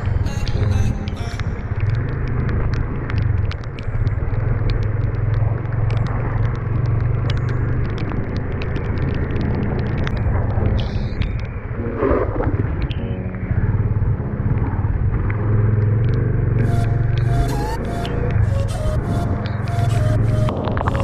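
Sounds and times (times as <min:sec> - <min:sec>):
gravel clicks and knocks: 0:00.0 - 0:21.0.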